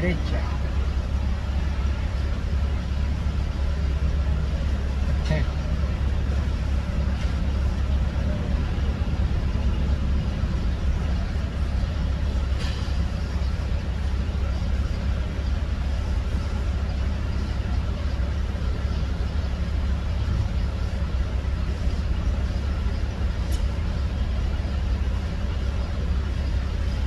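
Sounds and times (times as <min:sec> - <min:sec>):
suspension tester rumble: 0:00.0 - 0:27.0.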